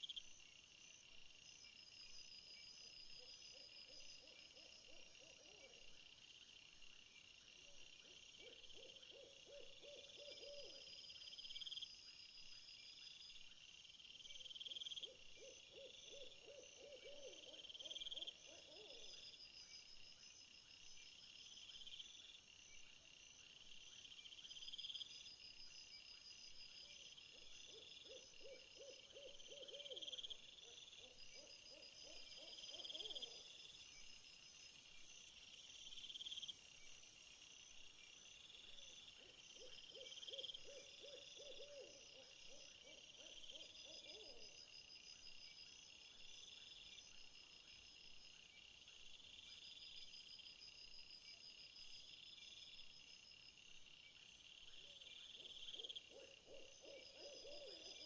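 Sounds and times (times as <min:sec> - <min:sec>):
insect chorus: 0:00.0 - 0:58.0
high pulsed insect calls: 0:08.9 - 0:58.0.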